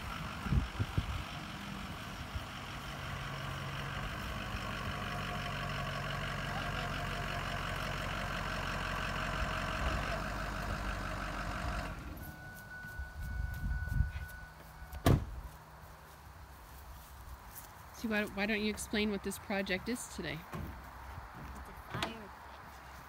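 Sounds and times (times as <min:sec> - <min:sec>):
diesel engine running: 0:00.0 - 0:16.7, 0:18.0 - 0:22.3.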